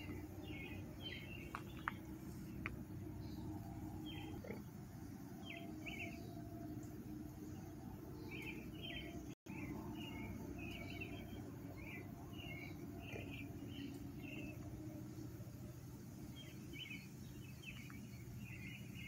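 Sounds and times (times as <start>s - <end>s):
birds chirping: 0.0s - 19.0s
low steady rumble: 0.0s - 19.0s.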